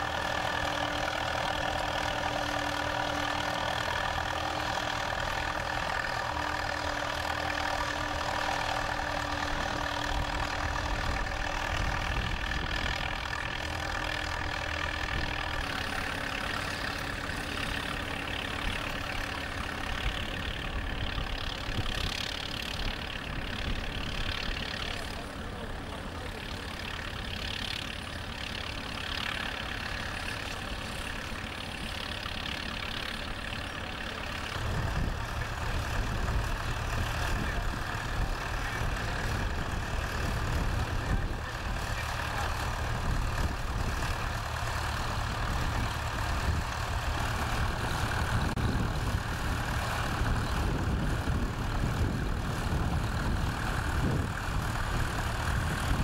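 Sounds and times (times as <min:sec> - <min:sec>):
tractor engines under load: 0:00.0 - 0:56.0.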